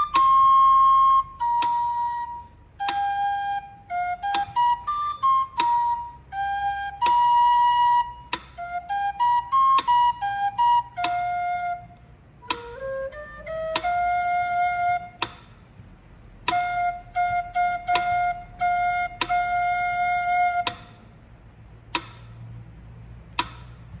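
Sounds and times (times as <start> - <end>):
hand cymbal ringing: 0.0 - 9.0, 9.7 - 14.2, 15.2 - 24.0
flute playing held notes: 0.0 - 21.2.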